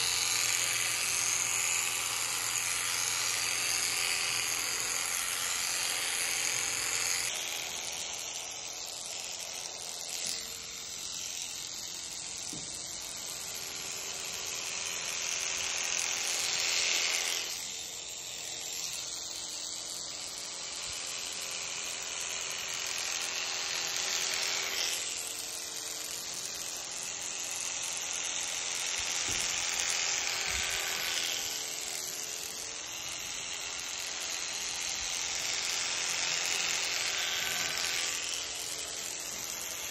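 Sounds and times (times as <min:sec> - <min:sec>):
electric shears cutting fleece: 0:00.0 - 0:39.9.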